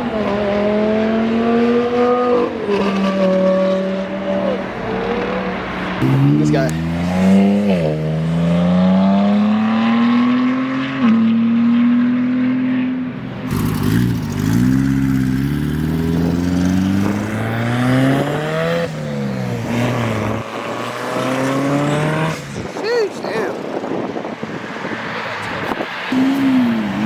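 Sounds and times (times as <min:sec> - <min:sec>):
car engines accelerating hard: 0:00.0 - 0:27.0.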